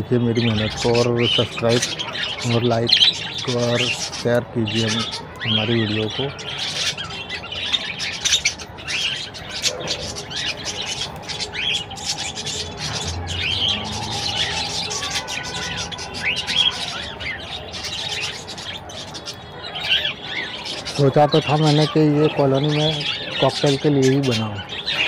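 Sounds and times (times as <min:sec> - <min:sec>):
budgerigars chirping and chattering: 0:00.0 - 0:25.0.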